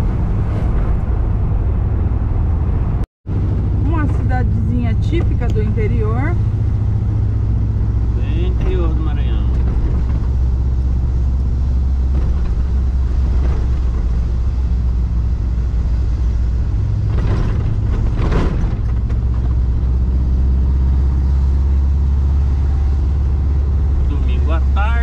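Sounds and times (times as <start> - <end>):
van engine and road noise: 0.0 - 25.0.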